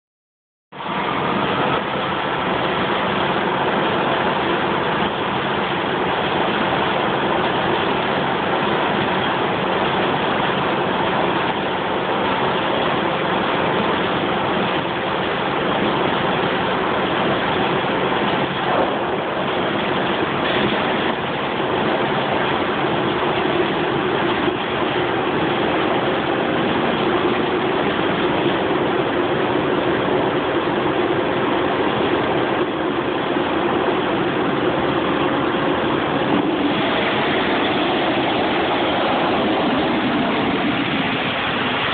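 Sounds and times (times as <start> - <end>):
glass washing machine running: 0.8 - 41.9.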